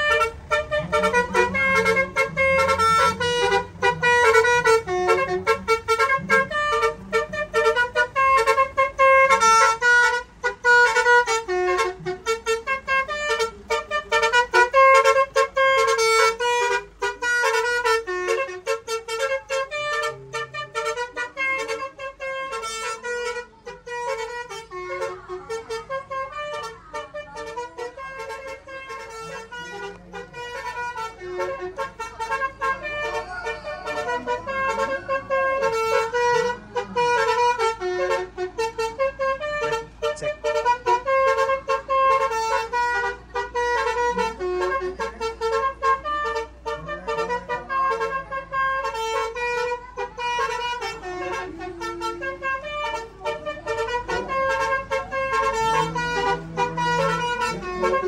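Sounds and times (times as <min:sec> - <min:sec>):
musical air horn melody: 0:00.0 - 0:58.0.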